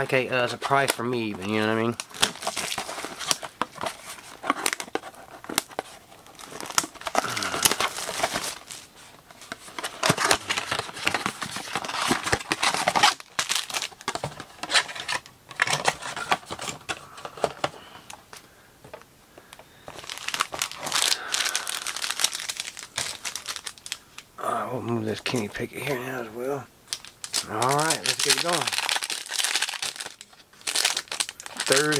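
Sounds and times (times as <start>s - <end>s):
plastic shrink wrap crinkling and tearing: 0.6s - 18.2s, 19.8s - 24.3s, 26.9s - 31.9s.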